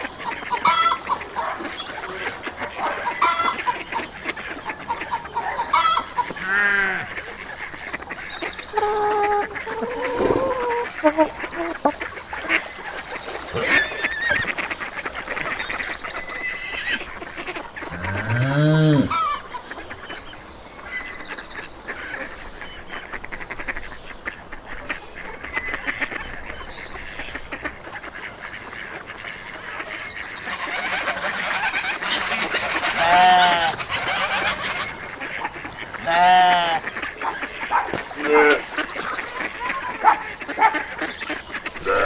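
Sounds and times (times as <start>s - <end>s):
geese honking: 0.0s - 20.0s, 23.0s - 42.0s
small birds chirping: 0.0s - 42.0s.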